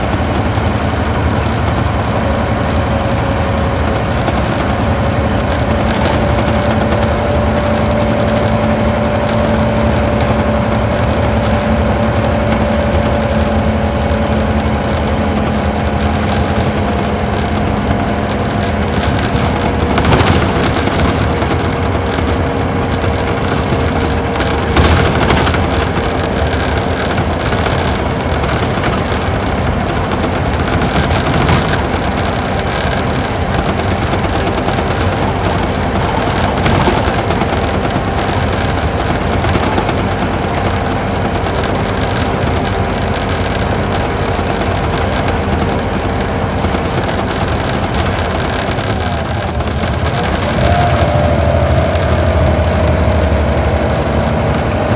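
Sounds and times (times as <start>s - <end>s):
bus engine running: 0.0s - 54.9s
road and tyre noise: 0.0s - 54.9s.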